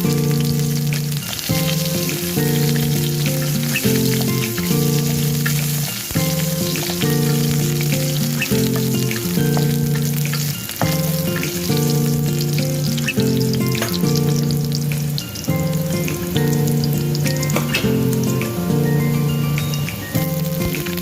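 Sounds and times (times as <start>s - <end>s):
background music low notes: 0.0s - 21.0s
food sizzling in a pan: 0.0s - 21.0s.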